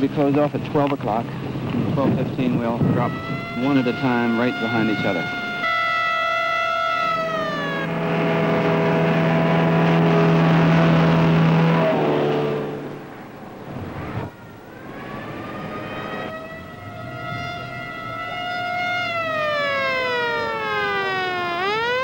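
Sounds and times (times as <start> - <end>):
truck engine passing: 1.2 - 22.0
hand-cranked siren wailing: 2.8 - 12.8, 14.0 - 22.0.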